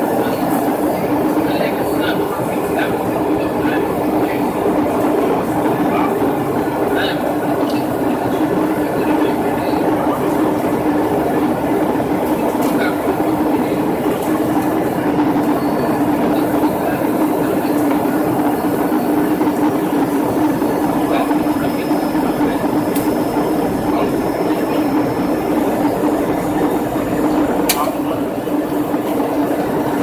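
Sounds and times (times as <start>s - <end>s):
constant hum: 0.0s - 30.0s
jet engines droning: 0.0s - 30.0s.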